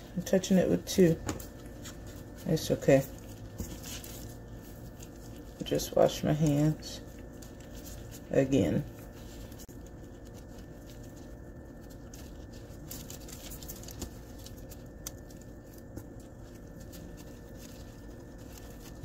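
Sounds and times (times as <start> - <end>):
handling food on aluminium foil: 0.0 - 19.0
low room hum: 0.0 - 19.0.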